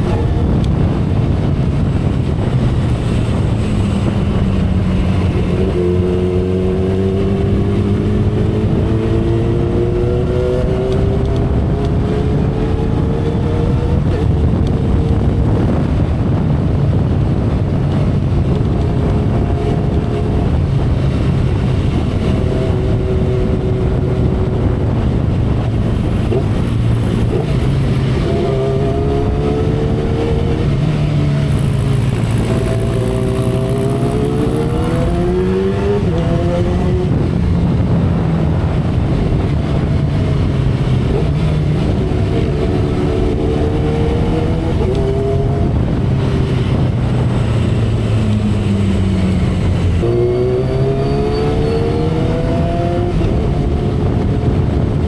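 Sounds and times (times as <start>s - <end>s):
motorcycle engine at speed: 0.0s - 55.0s
road noise: 0.0s - 55.0s
wind rush: 0.0s - 55.0s.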